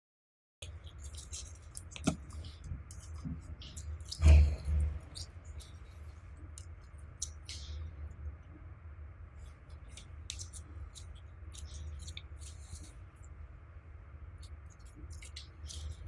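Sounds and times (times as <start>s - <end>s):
low steady hum: 0.6s - 16.0s.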